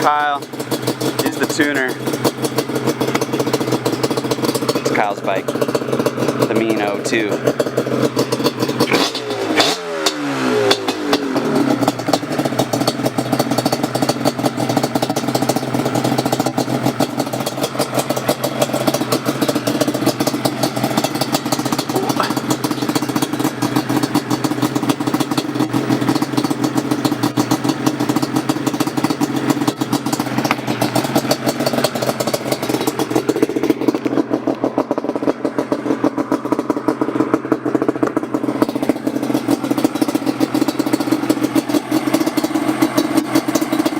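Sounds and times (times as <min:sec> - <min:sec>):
engine revving and idling: 0:00.0 - 0:43.9.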